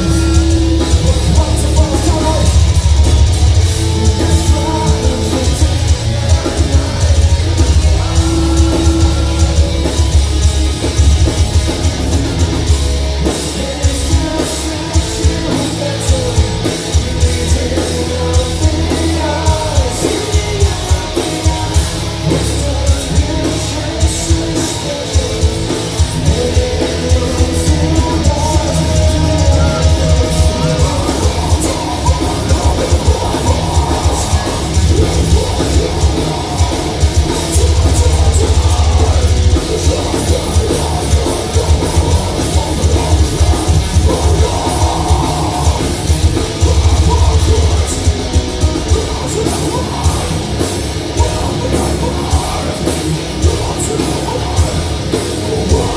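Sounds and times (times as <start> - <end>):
distorted electric guitars: 0.0 - 55.9
drum kit with rapid kick drum: 0.0 - 55.9
person singing lead vocal: 0.0 - 55.9.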